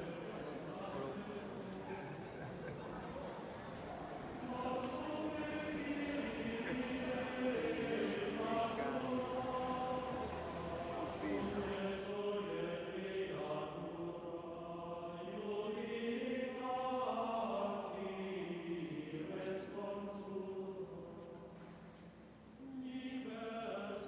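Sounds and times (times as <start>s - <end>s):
choir chanting: 0.0s - 21.5s, 22.6s - 24.0s.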